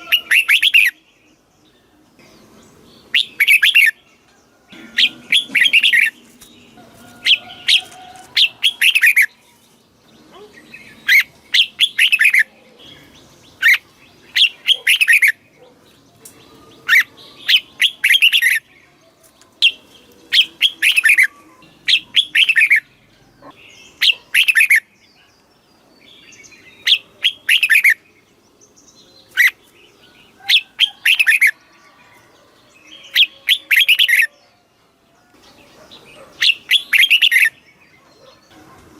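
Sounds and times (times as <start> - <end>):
bulbul singing warbled phrases: 0.0 - 31.7, 32.7 - 38.9.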